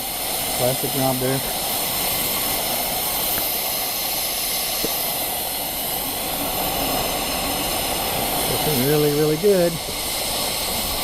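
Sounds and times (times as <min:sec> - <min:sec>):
pressure lantern hissing: 0:00.0 - 0:11.0.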